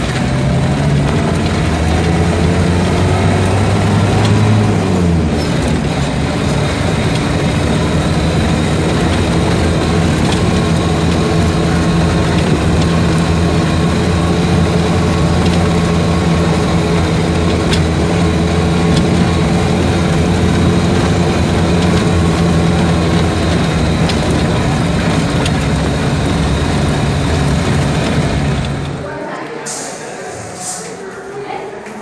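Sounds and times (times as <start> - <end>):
faint clicks and rattles: 0.0 - 29.0
vehicle engine running: 0.0 - 29.2.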